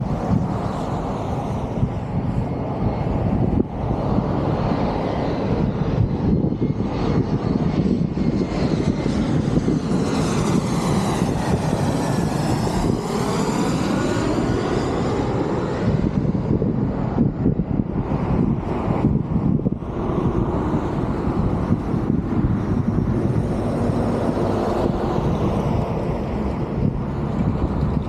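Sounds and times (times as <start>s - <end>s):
airplane passing low overhead: 0.0s - 28.0s.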